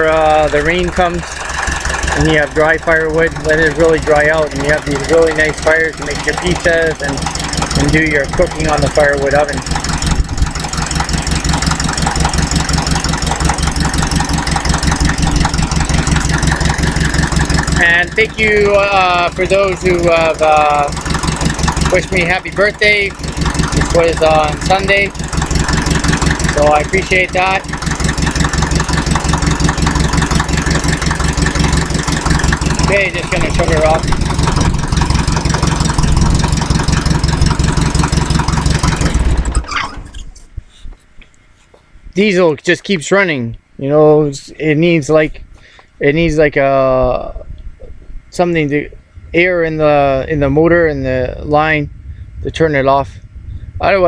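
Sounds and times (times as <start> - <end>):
diesel tractor engine running: 0.0 - 40.6, 43.6 - 54.0.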